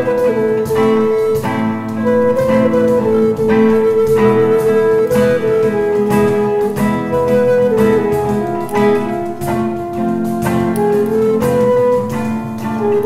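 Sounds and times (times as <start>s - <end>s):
cajon strokes: 0.0s - 13.0s
flute melody: 0.0s - 13.0s
strummed classical guitar: 0.0s - 13.0s.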